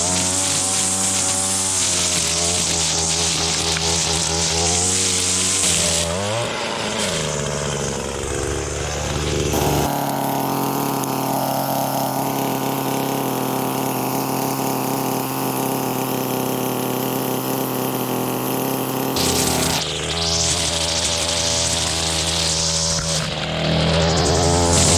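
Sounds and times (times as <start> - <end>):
two-stroke power tool engine: 0.0 - 24.9.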